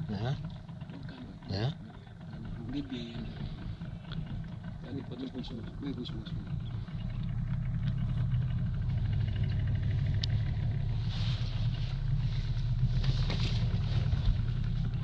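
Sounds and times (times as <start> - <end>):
outboard motor rumbling: 0.0 - 15.0.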